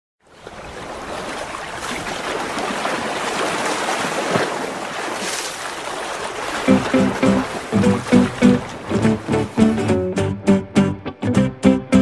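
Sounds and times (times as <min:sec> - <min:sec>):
rushing water: 0:00.2 - 0:10.2.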